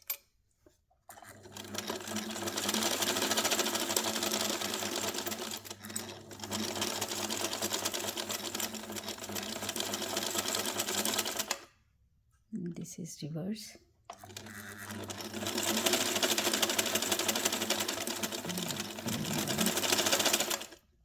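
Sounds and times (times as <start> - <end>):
sewing machine rattling: 1.1 - 11.7, 14.1 - 20.8.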